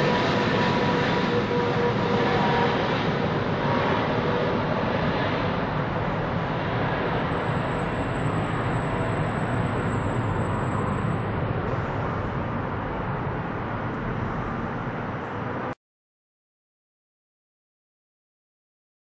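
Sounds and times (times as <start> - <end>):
jet airliner engine roar: 0.0 - 15.8.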